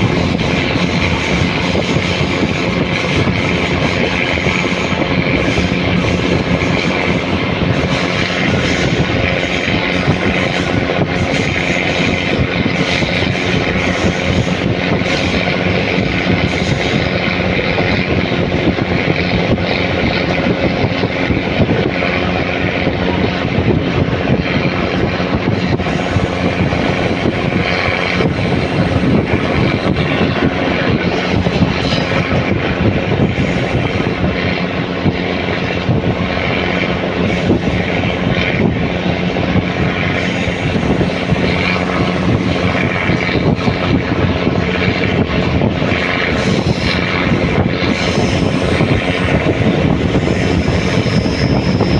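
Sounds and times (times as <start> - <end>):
diesel train engine droning: 0.0 - 51.9.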